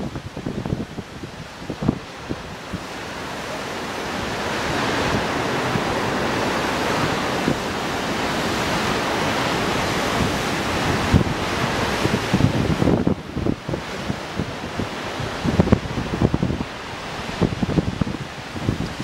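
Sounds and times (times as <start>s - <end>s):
surf breaking on rocky shore: 0.0s - 19.0s
wind buffeting microphone: 0.0s - 19.0s.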